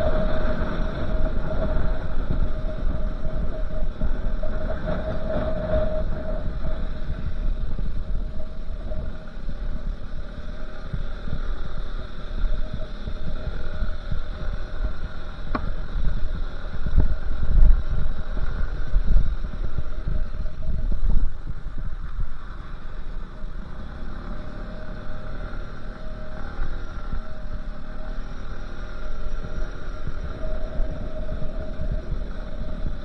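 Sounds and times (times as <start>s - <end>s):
three-wheeler passing: 0.0s - 33.0s
wind and road noise: 0.0s - 33.0s.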